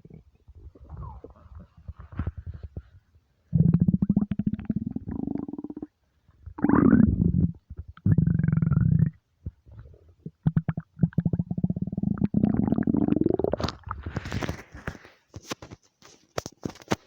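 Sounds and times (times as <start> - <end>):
stomach rumbling and gurgling: 0.0 - 15.3.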